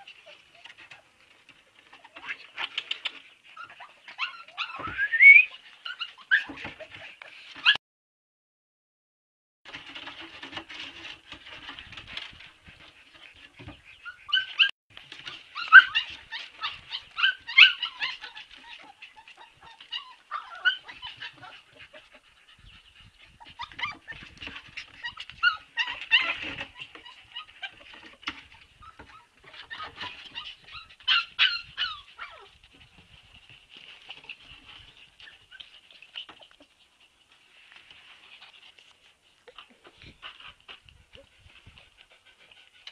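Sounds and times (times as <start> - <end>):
puppies whimpering and squealing: 0.0 - 7.8, 10.0 - 37.5.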